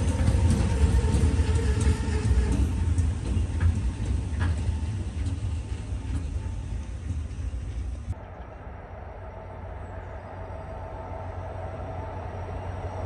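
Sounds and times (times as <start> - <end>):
passing train rumble: 0.0 - 13.0.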